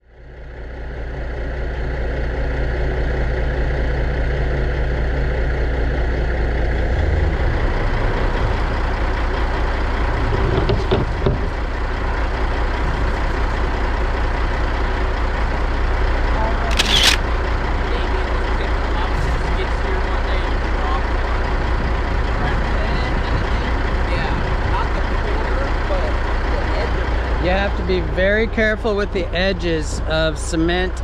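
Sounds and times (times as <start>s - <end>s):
heavy engine idling: 0.0s - 31.0s.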